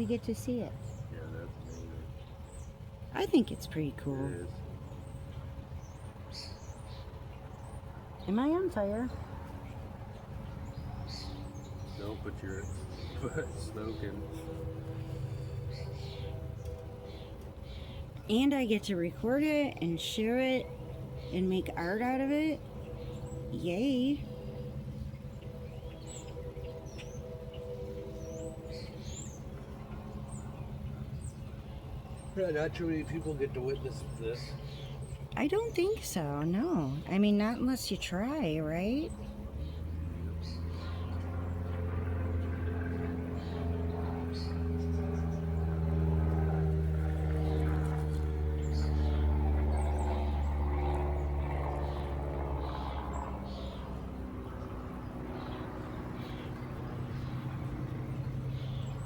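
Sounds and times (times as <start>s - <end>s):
birds chirping: 0.0s - 59.0s
steady low hum: 0.0s - 59.0s.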